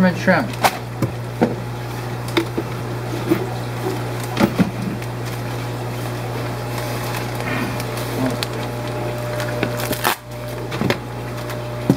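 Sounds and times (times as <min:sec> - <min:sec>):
aquarium pumps humming: 0:00.0 - 0:11.9.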